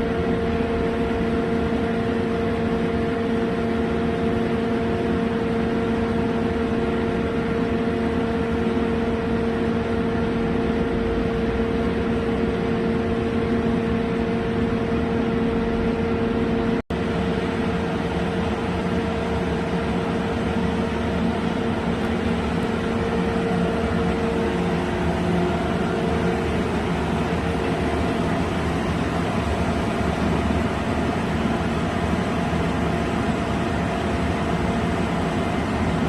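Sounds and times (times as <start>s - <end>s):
boring mill machine hum: 0.0s - 36.0s.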